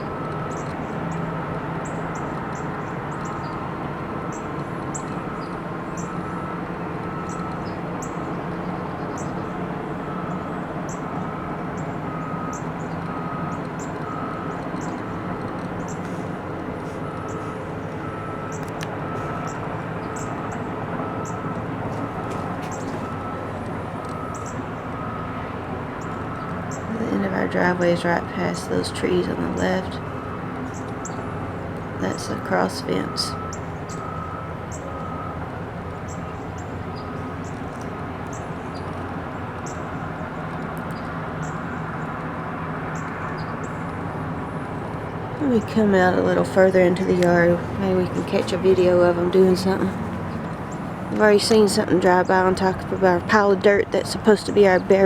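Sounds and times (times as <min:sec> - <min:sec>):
distant heavy machinery rumble: 0:00.0 - 0:55.0
reversing alarm beeping: 0:00.0 - 0:55.0.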